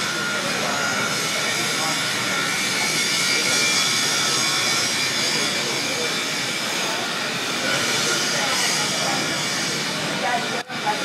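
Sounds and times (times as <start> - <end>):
murmur of voices: 0.0 - 11.0.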